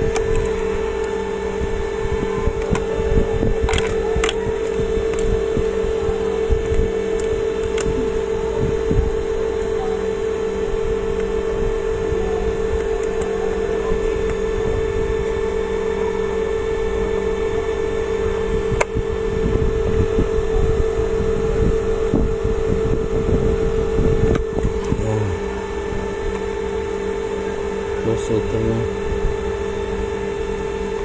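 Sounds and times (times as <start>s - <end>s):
steady electrical hum: 0.0s - 31.0s
uneven low rumbling: 0.0s - 31.0s.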